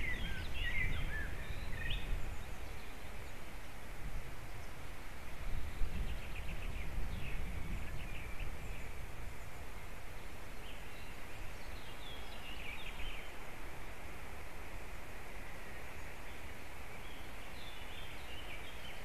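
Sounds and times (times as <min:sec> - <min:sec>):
wind rumbling on microphone: 0:00.0 - 0:15.6.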